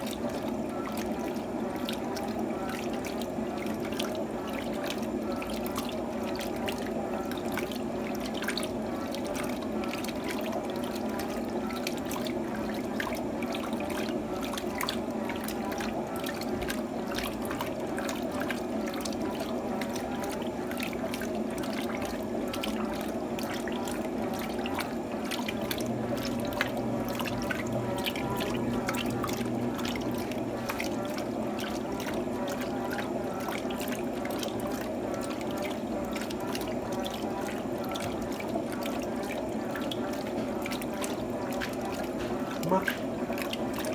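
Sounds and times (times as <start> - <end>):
water splashing in washing machine: 0.0 - 43.9.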